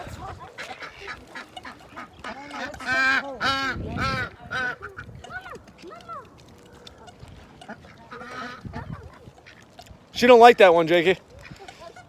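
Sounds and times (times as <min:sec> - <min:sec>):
waterfowl honking: 0:00.0 - 0:05.5, 0:06.6 - 0:12.0.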